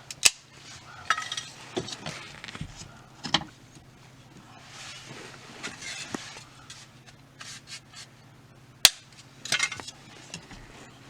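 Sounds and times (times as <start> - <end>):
scraping and rustling: 0.5 - 8.3, 9.2 - 11.0.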